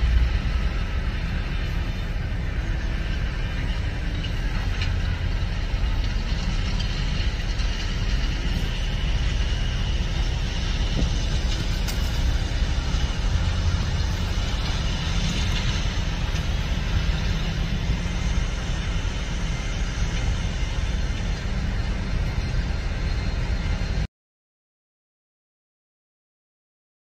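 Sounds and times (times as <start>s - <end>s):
tractor diesel engine rumbling: 0.0s - 24.1s.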